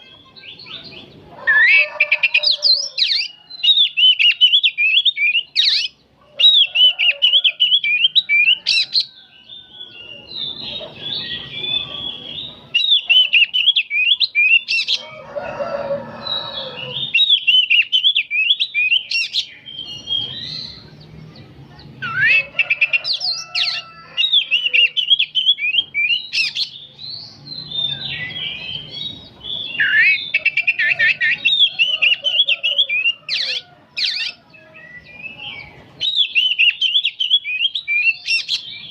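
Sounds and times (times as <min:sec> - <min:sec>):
bird singing chattering song: 0:00.0 - 0:15.1, 0:16.2 - 0:38.9.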